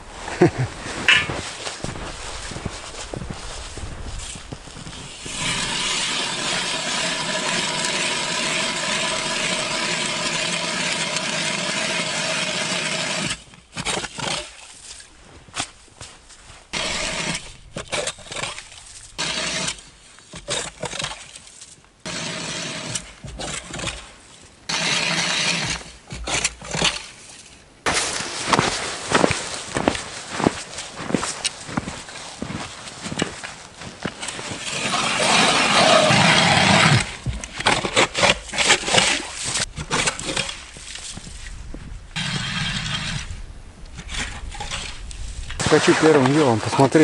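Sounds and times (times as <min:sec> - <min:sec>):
hand ice auger grinding ice: 0:00.4 - 0:41.6, 0:42.2 - 0:43.4, 0:44.0 - 0:47.0.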